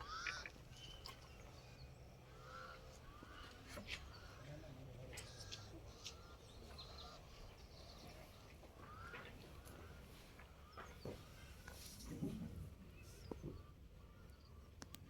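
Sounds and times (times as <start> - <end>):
faint bird chirps: 0.0 - 11.9, 12.7 - 15.0.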